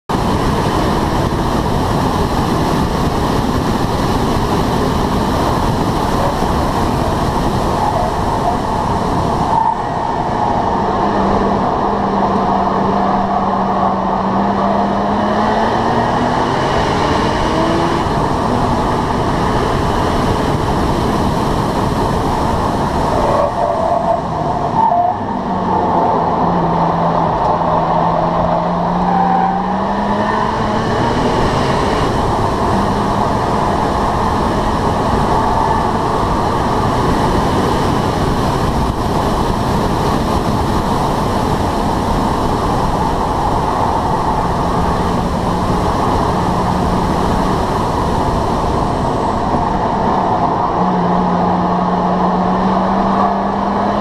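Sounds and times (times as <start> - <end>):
race car engine at full throttle: 0.0 - 54.0
wind and tyre noise rushing: 0.0 - 54.0.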